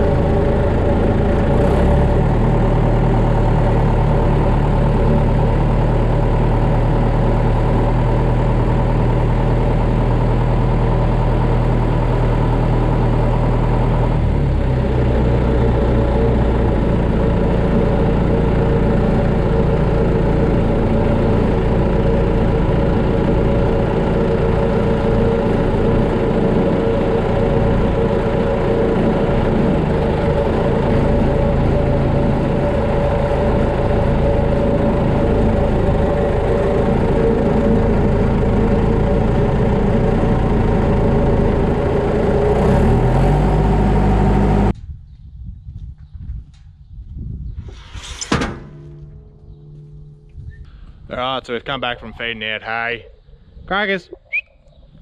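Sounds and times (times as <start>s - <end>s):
tractor diesel engine running: 0.0s - 44.8s, 47.8s - 54.0s.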